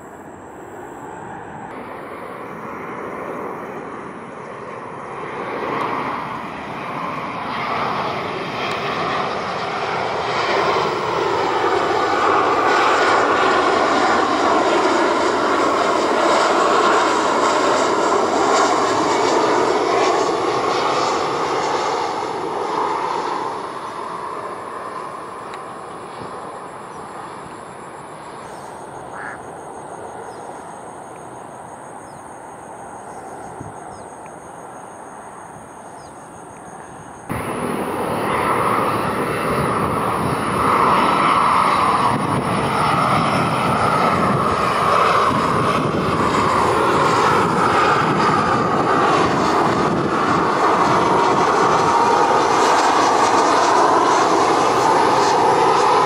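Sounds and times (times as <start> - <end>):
jet airliner flying past: 0.0 - 56.0
jet engine whine: 0.0 - 56.0.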